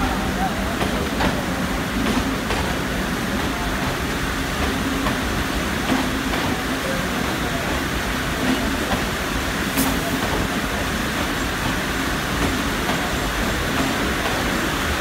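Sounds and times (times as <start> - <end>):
train rolling slowly: 0.0 - 15.0.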